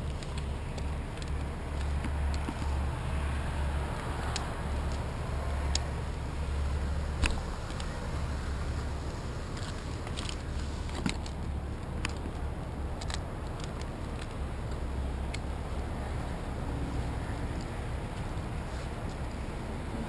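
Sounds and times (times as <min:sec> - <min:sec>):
climbing gear clicking and rustling: 0:00.0 - 0:20.0
steady low rumble: 0:00.0 - 0:20.0.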